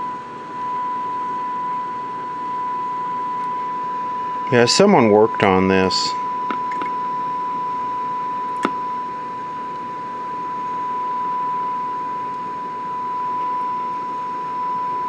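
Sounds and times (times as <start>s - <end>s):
test tone from radio speaker: 0.0s - 15.0s.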